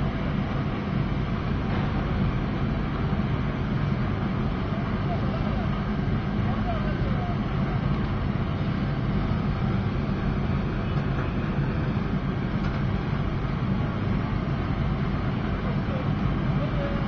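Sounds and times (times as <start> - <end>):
gas flame rumbling: 0.0 - 17.0.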